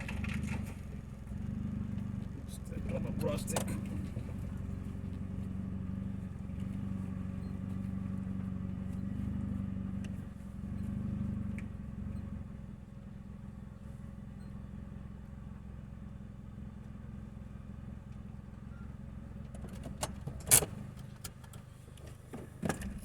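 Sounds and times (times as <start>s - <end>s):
car engine with leaking exhaust: 0.0s - 23.0s.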